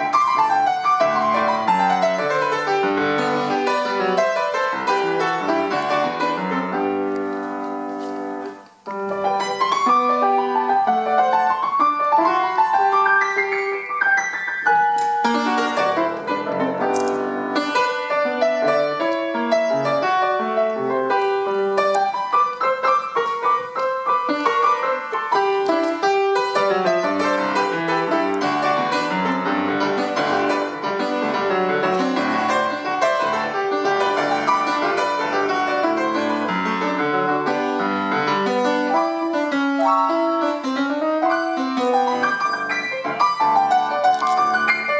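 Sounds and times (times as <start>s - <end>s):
solo piano folk dance: 0.0s - 44.9s.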